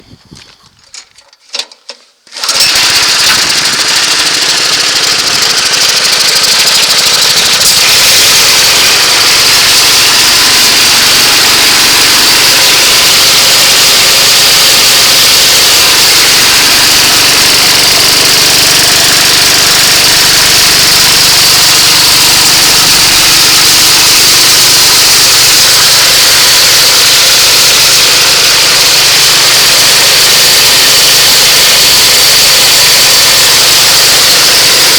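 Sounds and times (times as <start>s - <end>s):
air compressor engine running: 2.3s - 34.9s.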